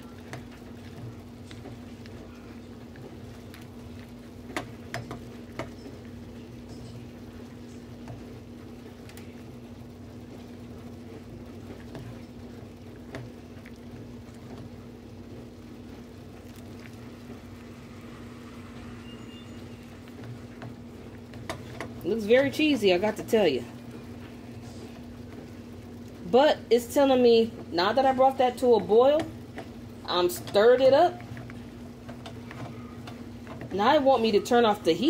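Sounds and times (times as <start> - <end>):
macaroni and cheese bubbling: 0.0 - 35.0
steady low hum: 0.0 - 35.0.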